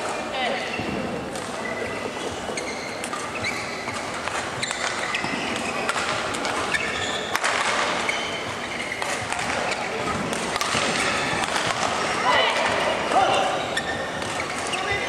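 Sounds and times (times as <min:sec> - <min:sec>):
murmur of voices: 0:00.0 - 0:15.0
shoes squeaking: 0:00.0 - 0:15.0.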